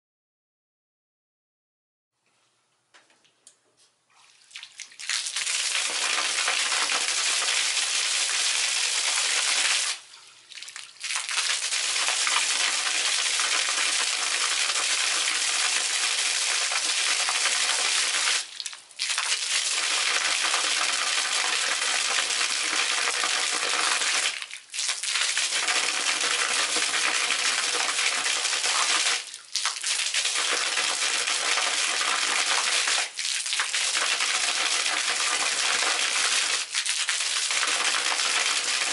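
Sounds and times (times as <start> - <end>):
fountain water spattering: 5.0 - 10.0, 10.7 - 38.9.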